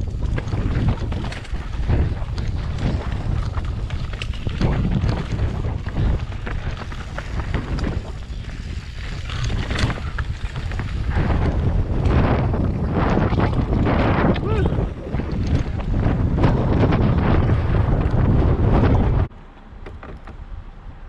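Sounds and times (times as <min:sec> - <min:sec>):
bike rattling over stones: 0:00.0 - 0:19.3
wind buffeting microphone: 0:00.0 - 0:19.3.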